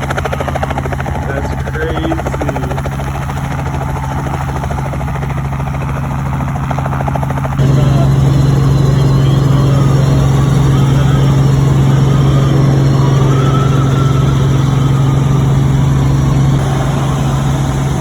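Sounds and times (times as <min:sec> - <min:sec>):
helicopter engine drone: 0:00.0 - 0:18.0.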